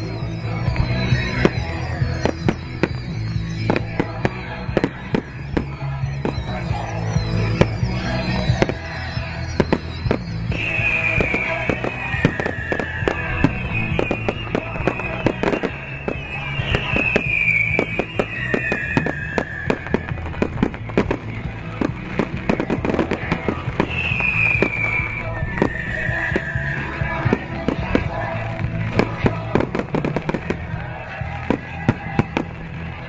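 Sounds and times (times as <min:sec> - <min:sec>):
fireworks bursting and crackling: 0:00.0 - 0:33.0
music playing: 0:00.0 - 0:33.0.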